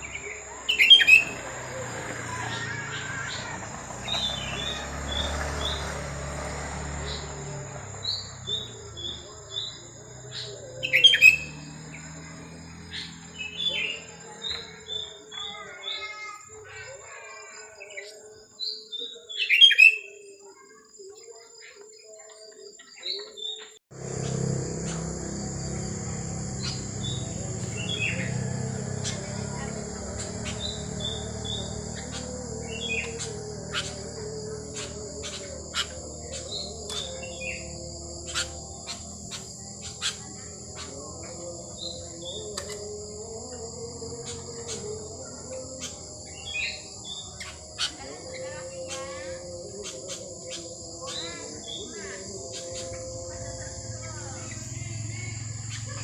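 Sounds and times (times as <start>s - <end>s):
high insect drone: 0.0s - 23.1s, 23.9s - 56.0s
bird chirping calls: 0.0s - 56.0s.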